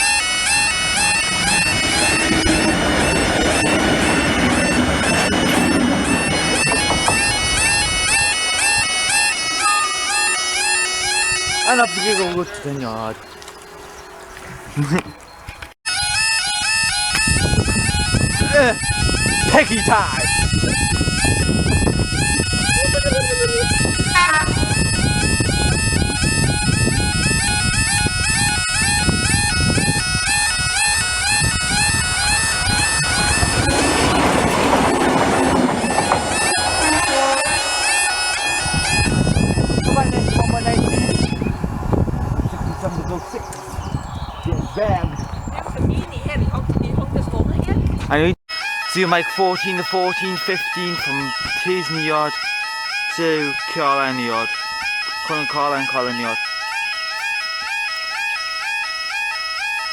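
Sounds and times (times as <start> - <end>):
bagpipes playing a tune: 0.0 - 13.2, 15.9 - 42.1, 48.5 - 59.9.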